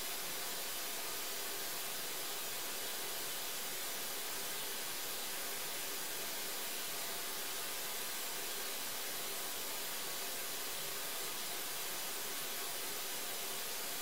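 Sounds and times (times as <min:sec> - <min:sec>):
steady bright hiss: 0:00.0 - 0:14.0.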